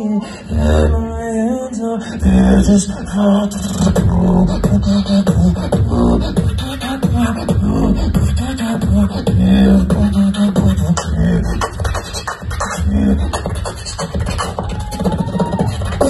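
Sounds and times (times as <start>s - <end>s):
beatboxing bass and drum sounds: 2.1s - 16.0s.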